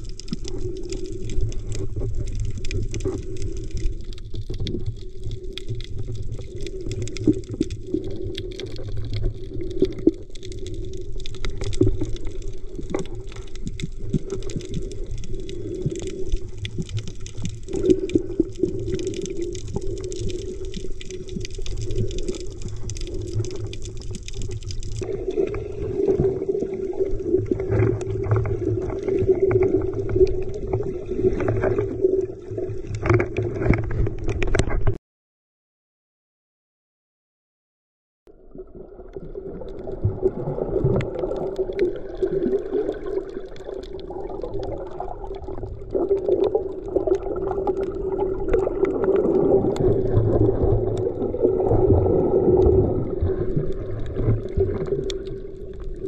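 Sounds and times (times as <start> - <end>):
underwater water wash: 0.0 - 35.0, 38.3 - 56.0.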